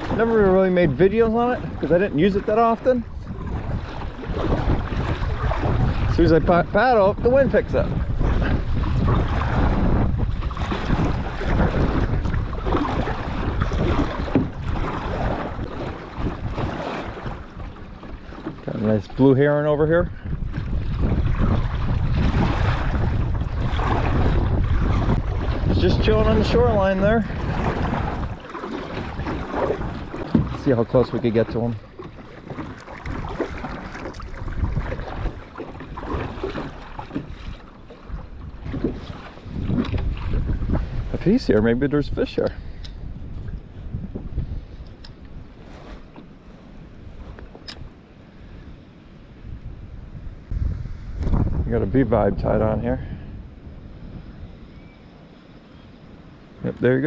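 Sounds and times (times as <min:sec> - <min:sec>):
water splashing from paddling: 0:00.0 - 0:48.7
wind buffeting microphone: 0:00.0 - 0:57.0.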